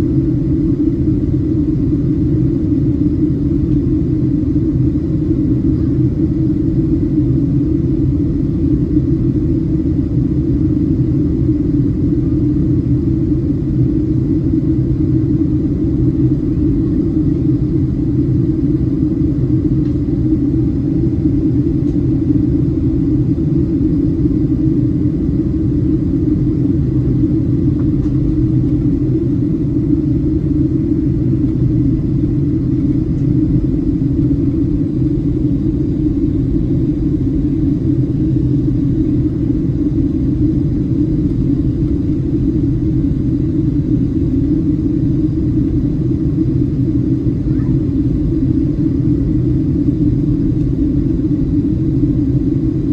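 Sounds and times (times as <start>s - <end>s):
airplane cabin jet engine rumble: 0.0s - 52.9s
faint steady hum: 0.0s - 52.9s.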